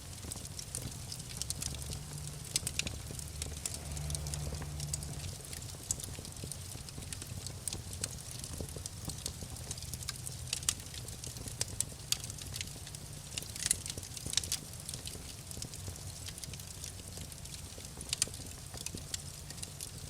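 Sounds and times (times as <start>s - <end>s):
low rumble of flame: 0.0s - 20.0s
wood fire crackling: 0.0s - 20.0s.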